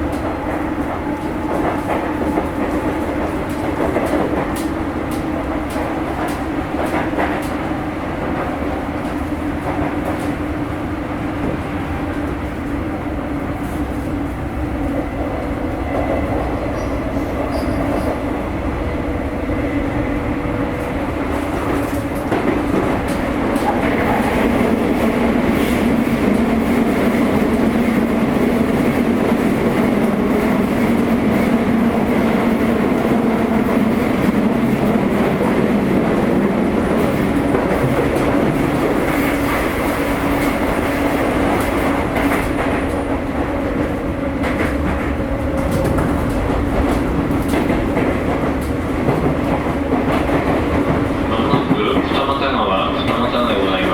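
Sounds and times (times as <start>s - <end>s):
wheels on rail inside train: 0.0s - 53.9s.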